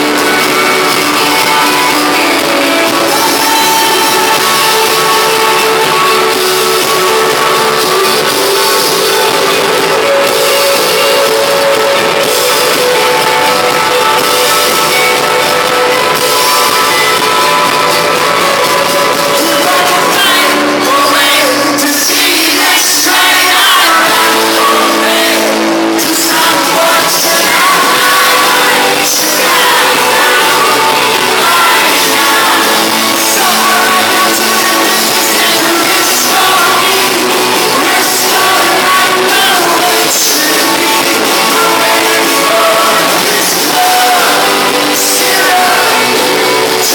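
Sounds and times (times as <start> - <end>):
rock band playing live: 0.0 - 46.9
singer belting: 0.0 - 46.9.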